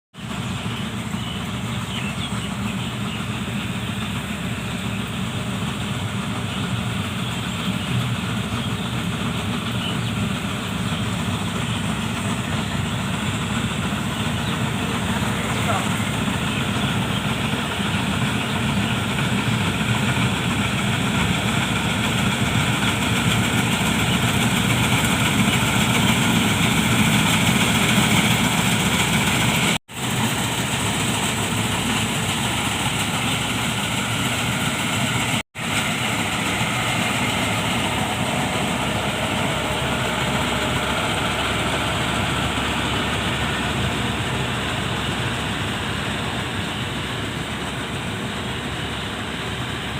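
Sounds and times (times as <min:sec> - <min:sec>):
diesel farm machinery running: 0:00.2 - 0:49.9.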